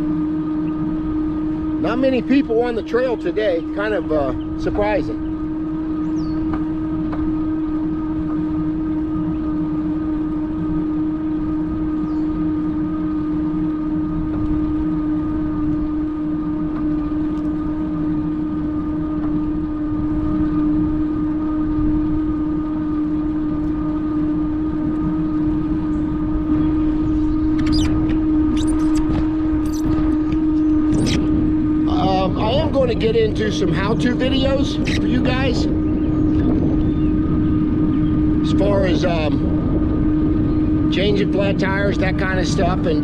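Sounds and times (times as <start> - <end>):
electric bike motor whine: 0.0 - 43.0
wind and tyre rumble: 0.0 - 43.0.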